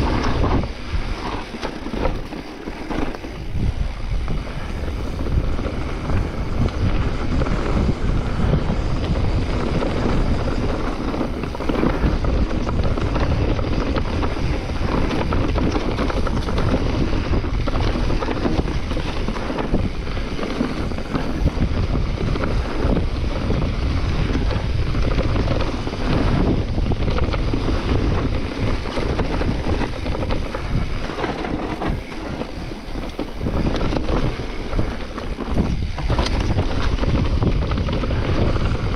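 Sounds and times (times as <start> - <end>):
bike rattling over bumps: 0.0 - 38.9
bike tyres on dirt trail: 0.0 - 38.9
wind on microphone: 0.0 - 38.9.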